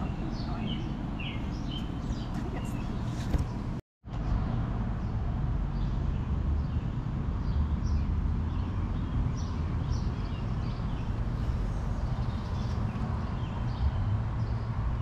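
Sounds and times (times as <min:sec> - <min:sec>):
birds chirping: 0:00.0 - 0:03.8, 0:05.8 - 0:14.8.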